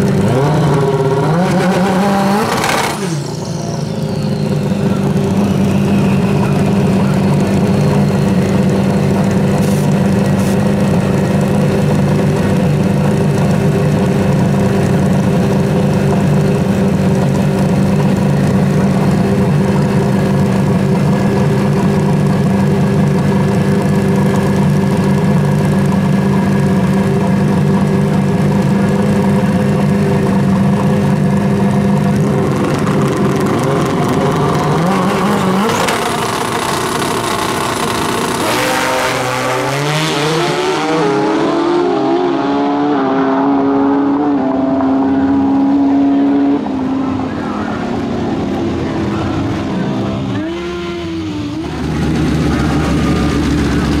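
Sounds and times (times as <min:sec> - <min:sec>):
motorcycle engines idling: 0:00.0 - 0:01.5, 0:03.0 - 0:38.6, 0:46.6 - 0:54.0
motorcycle engine revving: 0:00.0 - 0:54.0.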